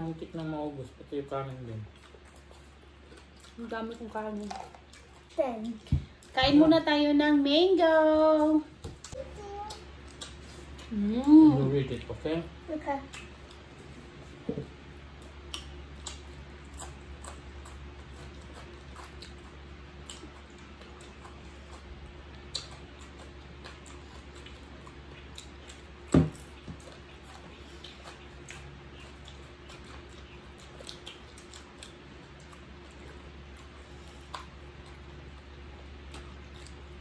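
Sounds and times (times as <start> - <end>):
people chewing: 0.0 - 6.6, 8.4 - 37.0
steady low hum: 0.0 - 37.0.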